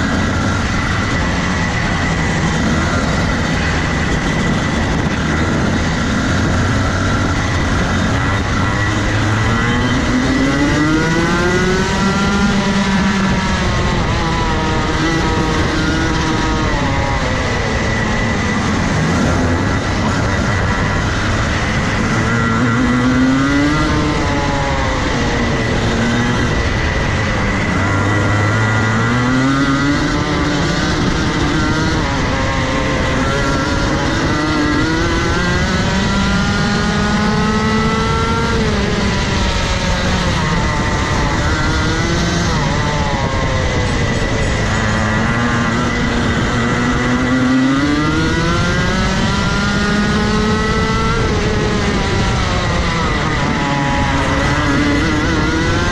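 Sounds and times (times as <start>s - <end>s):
kart engine racing: 0.0s - 55.9s.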